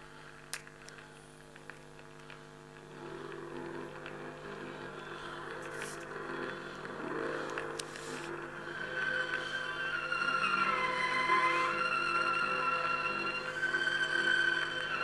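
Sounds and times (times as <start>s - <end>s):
steady low hum: 0.0s - 15.0s
vinyl crackle and clicks: 0.0s - 15.0s
faint instrumental music: 2.7s - 15.0s.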